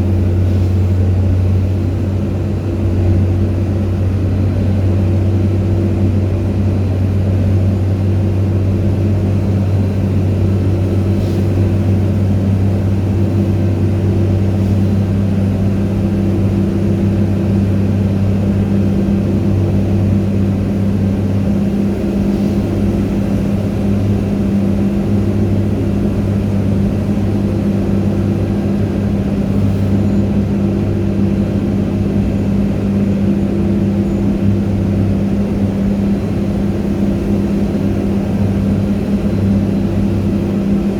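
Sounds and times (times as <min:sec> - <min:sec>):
aircraft machinery drone: 0:00.0 - 0:40.9.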